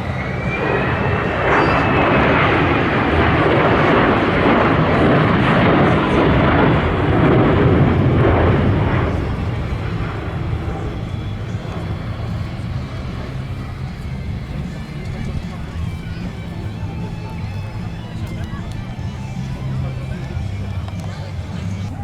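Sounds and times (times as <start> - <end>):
military aircraft engines: 0.0 - 22.0.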